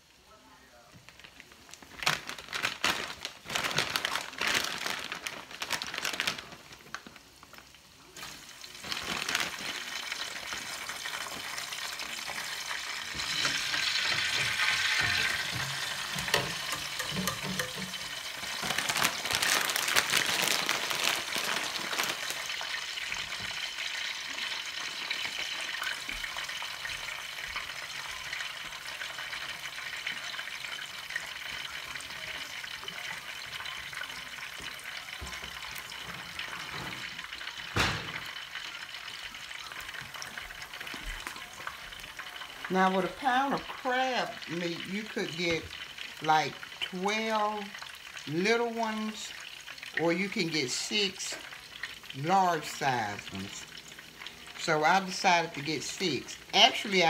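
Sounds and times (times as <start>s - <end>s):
oil crackling and popping: 0.1s - 57.0s
food sizzling in oil: 1.1s - 57.0s.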